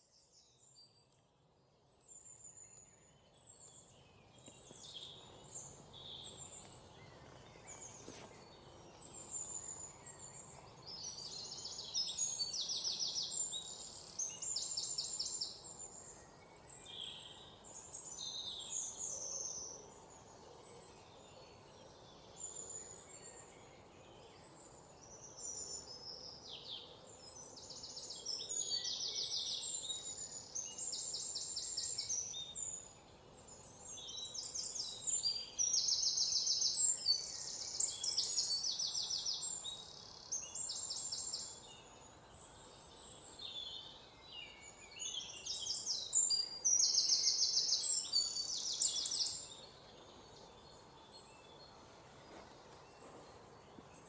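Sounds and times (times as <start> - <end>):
faint steady background hiss: 0.0 - 54.0
songbirds chirping and trilling: 0.0 - 54.0.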